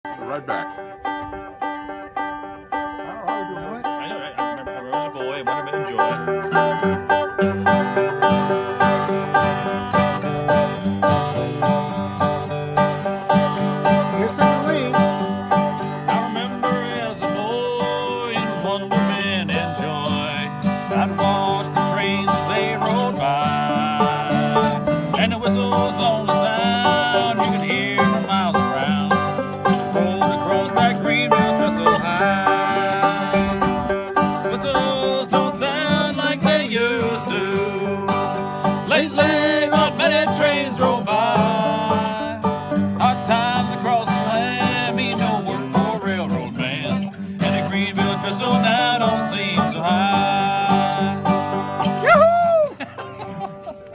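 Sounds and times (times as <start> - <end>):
bluegrass banjo and guitar music: 0.0 - 53.9.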